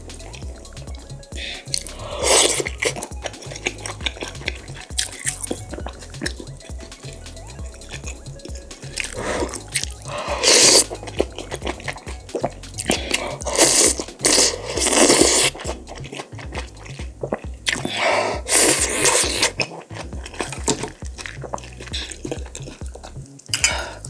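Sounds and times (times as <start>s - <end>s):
smacking squishy chewing: 0.0s - 24.0s
wet slurping: 0.0s - 24.0s.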